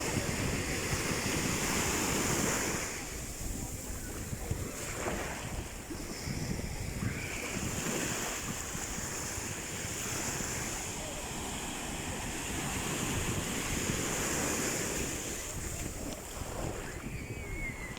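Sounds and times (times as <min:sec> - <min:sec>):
sea waves washing onto shore: 0:00.0 - 0:17.9
wind buffeting microphone: 0:00.0 - 0:17.9.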